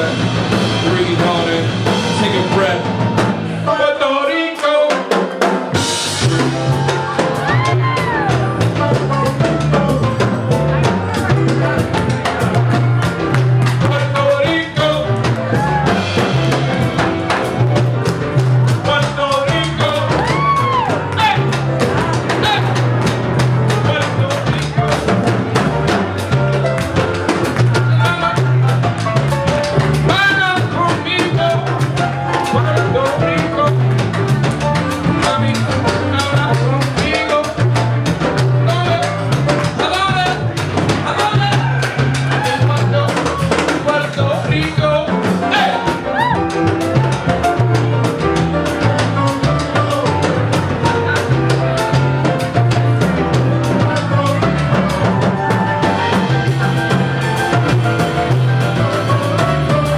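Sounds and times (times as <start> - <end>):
drum kit: 0.0 - 59.9
grand piano: 0.0 - 59.9
upright bass: 0.0 - 59.9.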